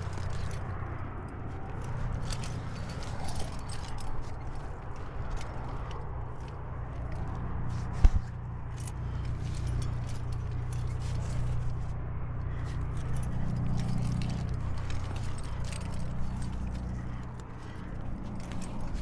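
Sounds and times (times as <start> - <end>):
climber scraping against rock: 0.0 - 19.0
steady low rumble: 0.0 - 19.0.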